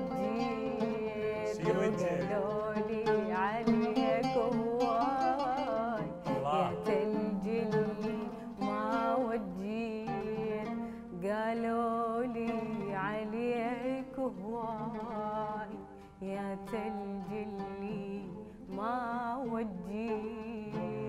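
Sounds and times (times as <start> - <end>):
plucked oud: 0.0 - 21.0
woman singing with vibrato: 0.0 - 21.0.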